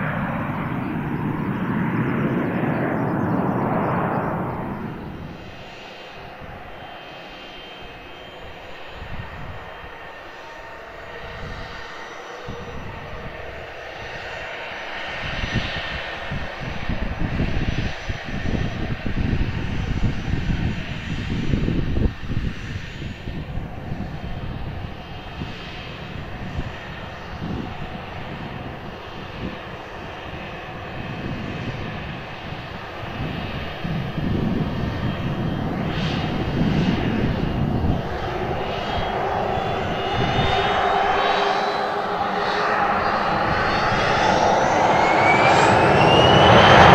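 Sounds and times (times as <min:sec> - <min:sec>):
aircraft engines running: 0:00.0 - 0:46.9.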